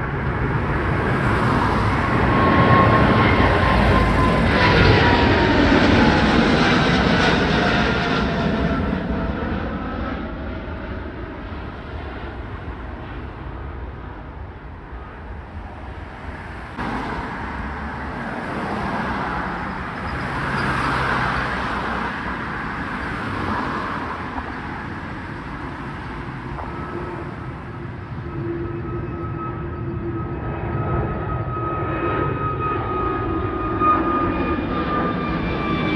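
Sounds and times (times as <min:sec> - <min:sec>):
jet engines during takeoff: 0:00.0 - 0:35.9.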